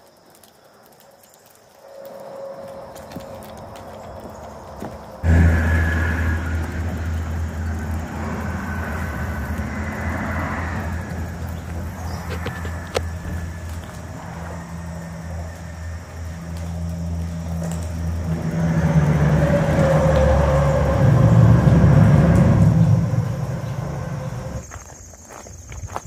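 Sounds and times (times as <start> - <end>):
vehicle engine passing by: 1.9 - 24.6.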